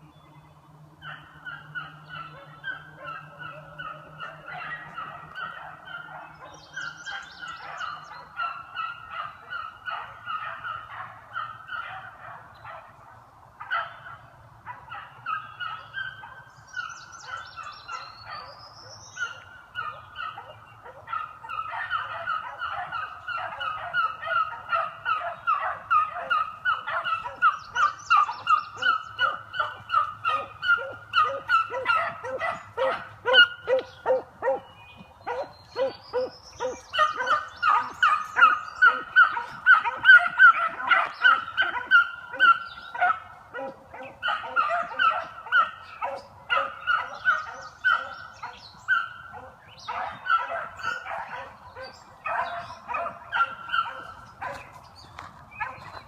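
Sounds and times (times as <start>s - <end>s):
pack of dogs baying: 1.0s - 13.0s, 13.6s - 56.0s.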